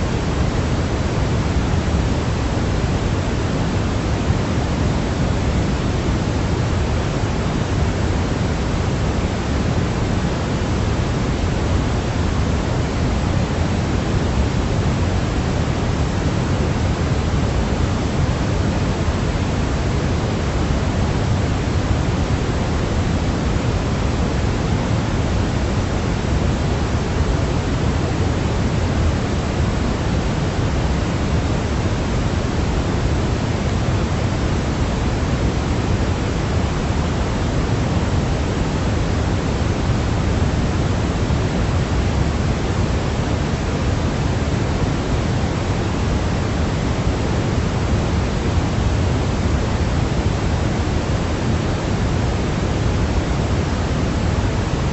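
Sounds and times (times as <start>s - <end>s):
pink noise hiss: 0.0s - 54.9s.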